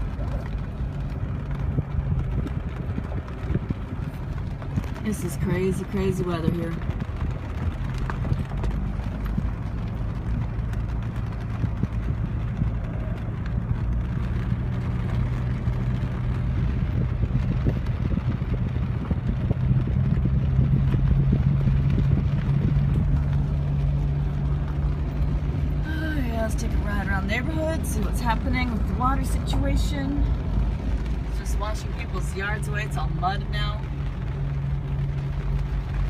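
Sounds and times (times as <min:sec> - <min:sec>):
car engine and road hum: 0:00.0 - 0:36.0.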